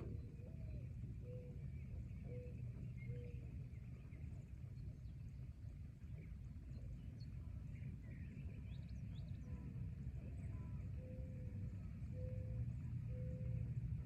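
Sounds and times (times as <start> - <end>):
faint bird calls and chirps: 0.0 - 14.0
low forest rumble: 0.0 - 14.0.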